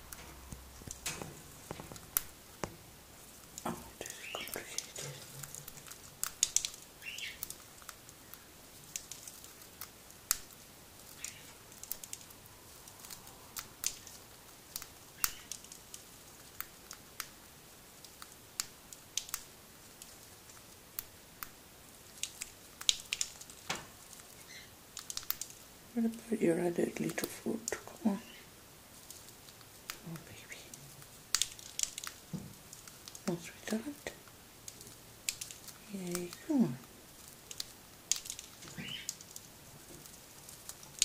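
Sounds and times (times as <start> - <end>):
bird cracking seeds: 0.0 - 41.0.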